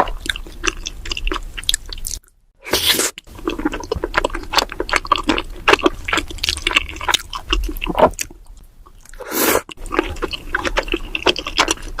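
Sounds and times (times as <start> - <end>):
wet chewing and smacking: 0.0 - 2.4, 3.2 - 12.0.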